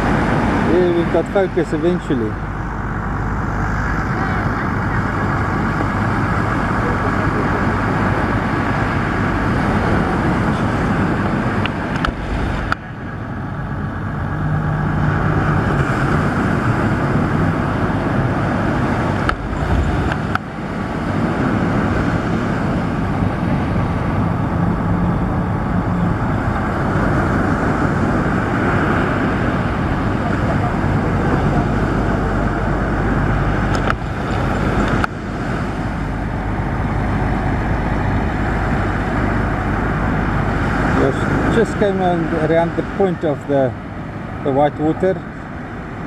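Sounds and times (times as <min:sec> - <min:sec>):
faint engine drone: 0:00.0 - 0:46.0
surf roaring: 0:00.0 - 0:46.0
wind: 0:00.0 - 0:46.0.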